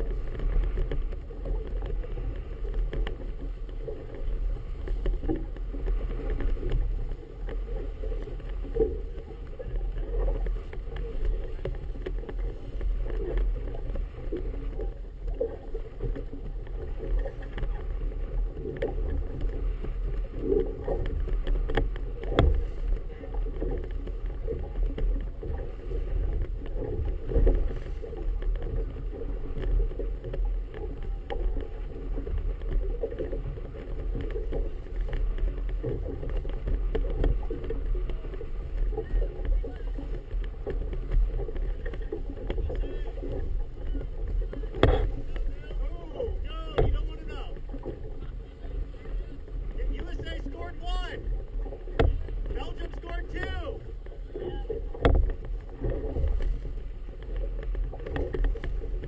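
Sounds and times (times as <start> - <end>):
knocks and splashes: 0.0 - 59.0
steady low rumble: 0.0 - 59.0
water slapping against boat hull: 0.0 - 59.0.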